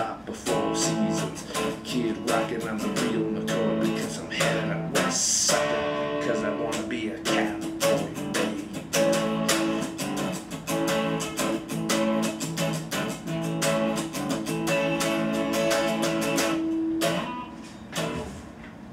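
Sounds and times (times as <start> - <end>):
electric guitar strumming chords: 0.0 - 18.4.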